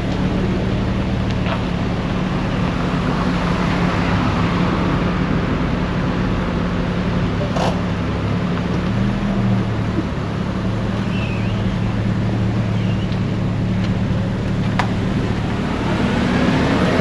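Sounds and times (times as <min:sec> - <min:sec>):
traffic noise: 0:00.0 - 0:17.0
vehicle engine humming: 0:00.0 - 0:17.0.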